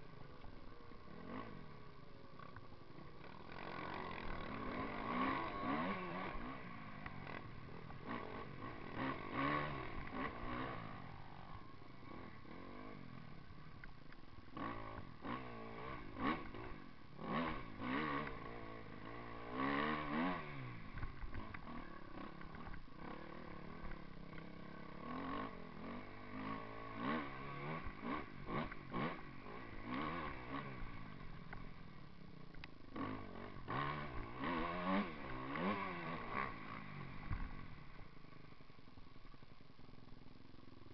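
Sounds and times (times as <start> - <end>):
motocross bike engine revving: 0.1 - 38.6.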